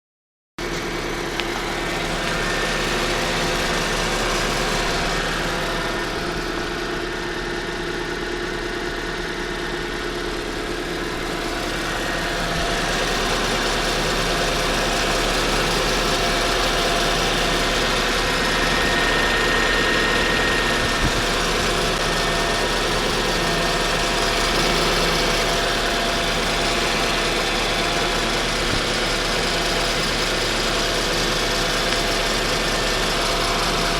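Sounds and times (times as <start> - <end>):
car engine idling: 0.6 - 33.9.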